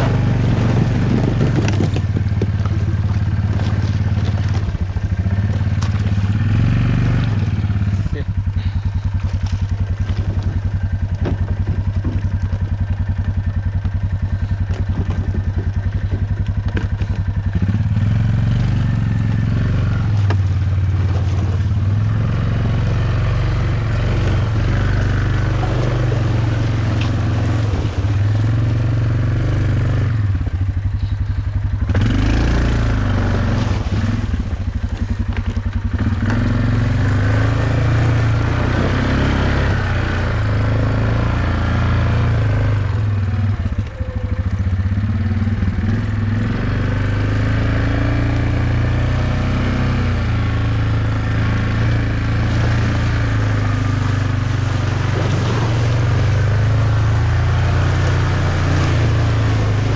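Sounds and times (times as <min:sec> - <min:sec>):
off-road vehicle engine: 0:00.0 - 0:59.9.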